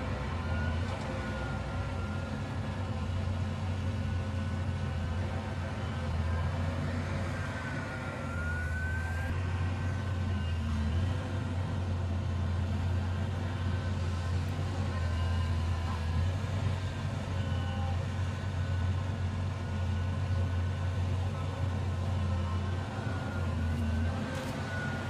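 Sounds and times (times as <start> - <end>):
excavator diesel engine drone: 0.0 - 25.0
faint high whine: 0.0 - 25.0.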